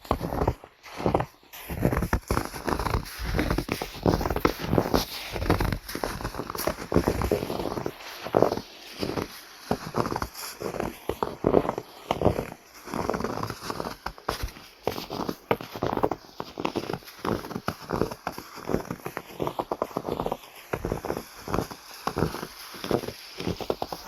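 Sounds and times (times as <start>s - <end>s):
footsteps crunching in snow: 0.0s - 24.0s.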